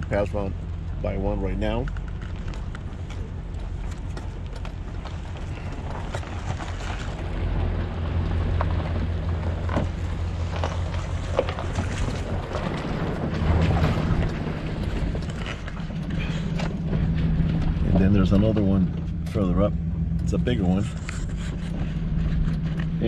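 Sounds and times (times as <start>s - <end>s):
truck engine low hum: 0.0s - 23.0s.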